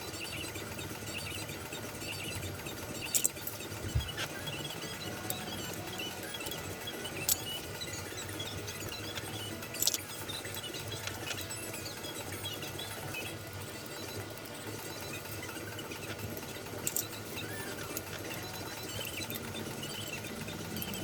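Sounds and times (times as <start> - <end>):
small motor humming: 0.0 - 21.0.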